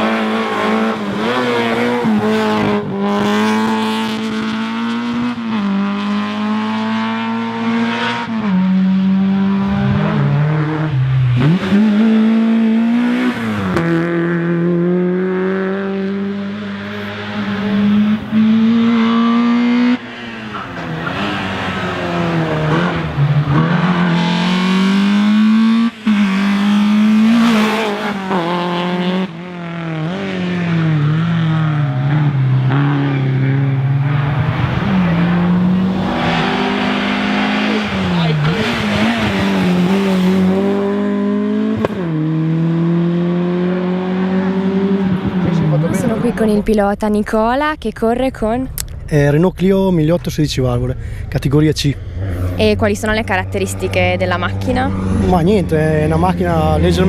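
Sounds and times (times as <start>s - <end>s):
racing car engines revving: 0.0s - 47.3s, 48.7s - 57.0s.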